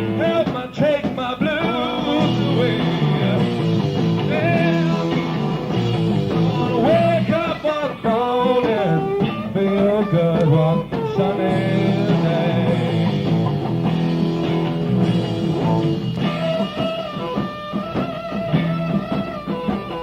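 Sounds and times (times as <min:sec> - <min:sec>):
electric guitar: 0:00.0 - 0:20.0
live rock band playing: 0:00.0 - 0:20.0.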